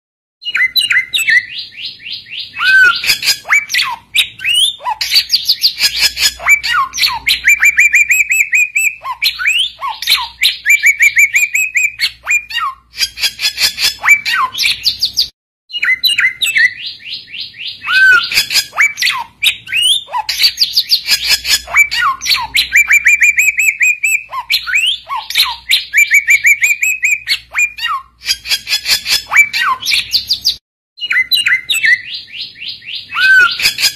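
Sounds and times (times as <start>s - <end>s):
bird singing trills and whistles: 0.4s - 33.9s.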